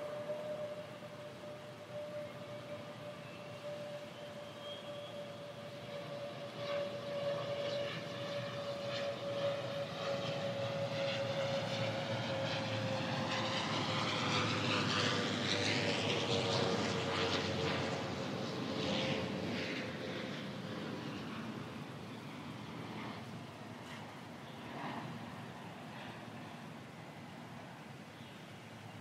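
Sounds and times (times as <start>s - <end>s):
jet aircraft flying past: 0.0s - 29.0s.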